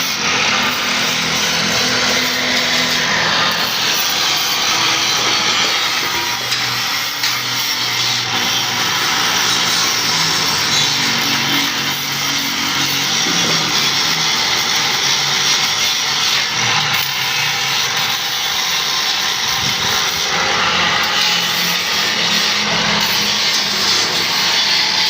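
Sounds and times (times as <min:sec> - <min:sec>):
power tool hissing on metal: 0:00.0 - 0:25.0.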